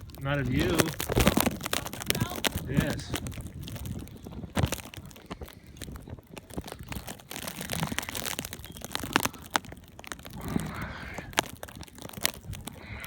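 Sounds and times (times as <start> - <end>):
footsteps crunching through snow: 0.0 - 13.0.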